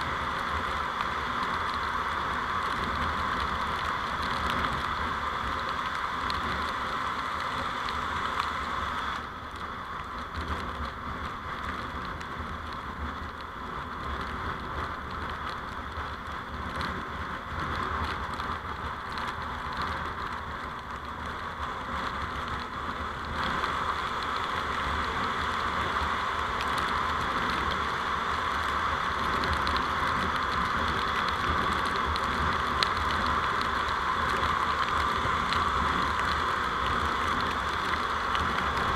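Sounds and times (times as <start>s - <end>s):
vehicle road and wind noise: 0.0s - 38.9s.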